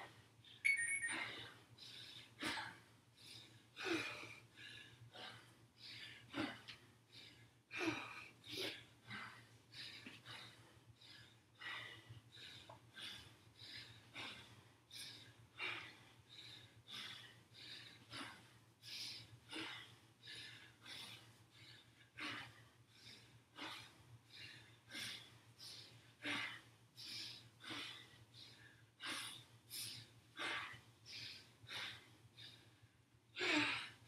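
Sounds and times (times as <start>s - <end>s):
person breathing hard: 0.0s - 34.0s.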